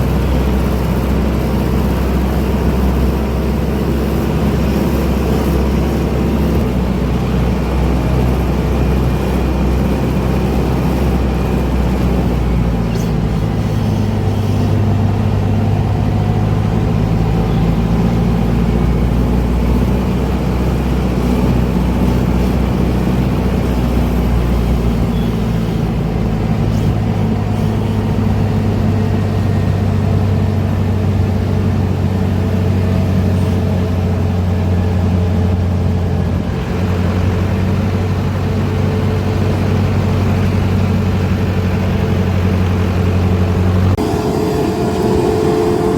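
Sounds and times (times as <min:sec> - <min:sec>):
diesel engines running under load: 0:00.0 - 0:45.9.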